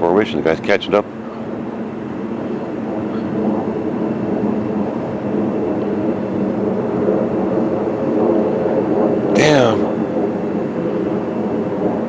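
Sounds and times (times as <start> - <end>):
jet aircraft passing overhead: 0.0 - 12.0.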